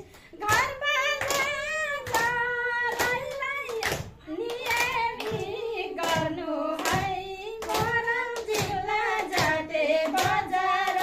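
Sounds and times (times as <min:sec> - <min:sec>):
people clapping along: 0:00.0 - 0:11.0
women singing: 0:00.0 - 0:11.0.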